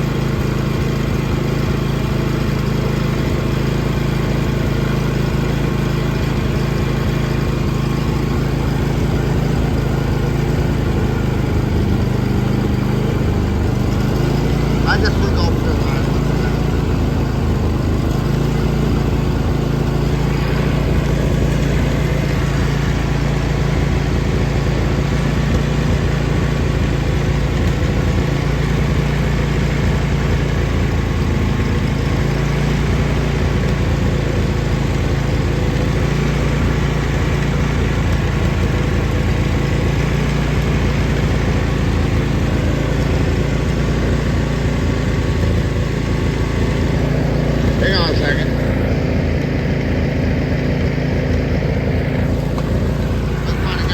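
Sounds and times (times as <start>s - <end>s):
lawn tractor engine running: 0.0s - 53.9s.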